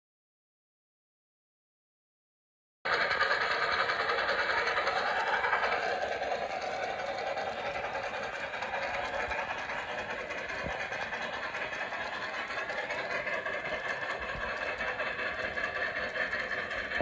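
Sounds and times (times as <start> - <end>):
model train wheels rattling on rail: 2.9 - 17.0.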